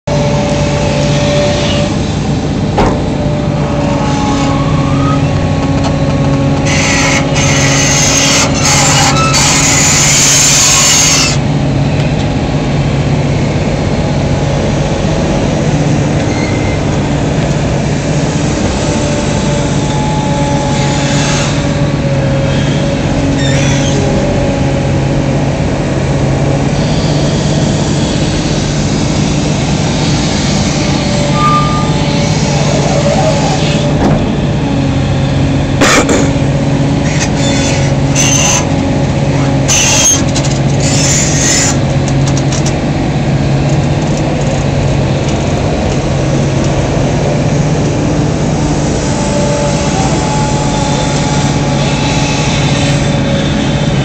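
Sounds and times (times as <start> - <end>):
excavator diesel engine running: 0.0 - 54.0
hydraulic whining tones: 0.1 - 12.4, 13.3 - 43.0, 44.7 - 54.0.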